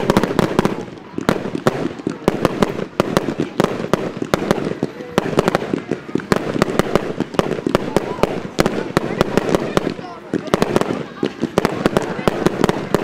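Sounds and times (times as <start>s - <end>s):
fireworks hiss and crackle: 0.0s - 13.0s.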